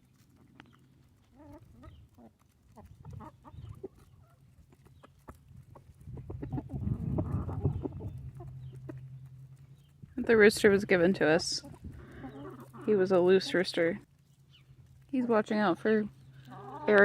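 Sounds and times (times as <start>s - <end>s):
chickens clucking: 0.1s - 17.0s.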